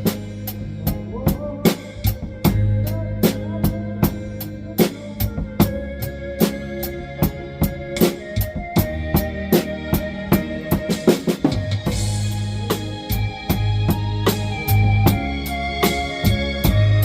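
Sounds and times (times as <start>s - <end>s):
blues backing track with bass: 0.0s - 17.0s
drum kit playing a beat: 0.0s - 17.0s.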